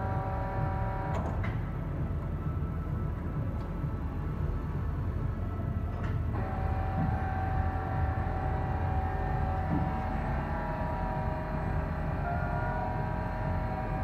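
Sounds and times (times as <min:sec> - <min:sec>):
lathe low hum: 0:00.0 - 0:14.0
multi-tone drive whine: 0:00.0 - 0:14.0.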